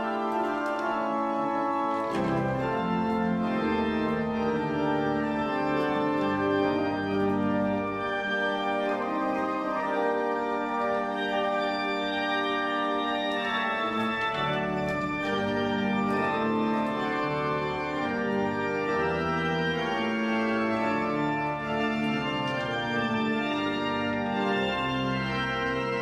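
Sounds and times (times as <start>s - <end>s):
pipe organ playing held chords: 0.0s - 26.0s.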